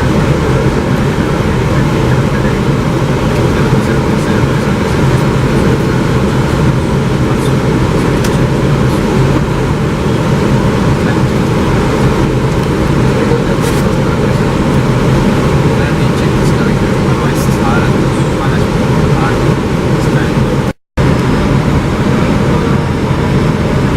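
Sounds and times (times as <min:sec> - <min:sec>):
aircraft engine hum: 0:00.0 - 0:23.9
rushing airflow: 0:00.0 - 0:23.9.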